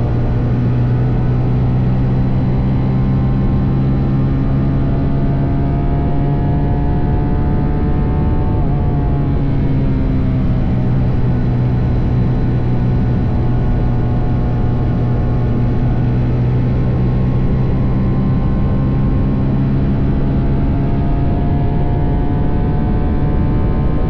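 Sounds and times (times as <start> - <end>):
motorcycle engine cruising: 0.0 - 24.0
wind and road noise: 0.0 - 24.0.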